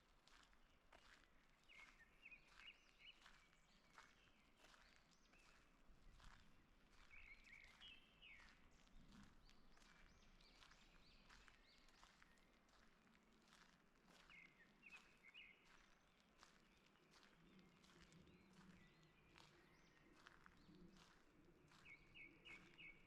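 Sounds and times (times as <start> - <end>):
faint birdsong: 0.6 - 13.1, 14.2 - 23.0.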